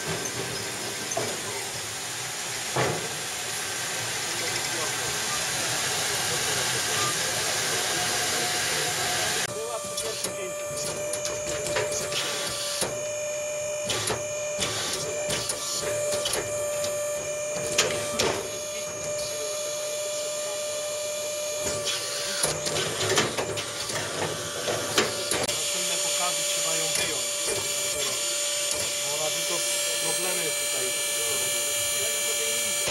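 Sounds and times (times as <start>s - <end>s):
band sawmill machine whine: 0.0s - 32.9s.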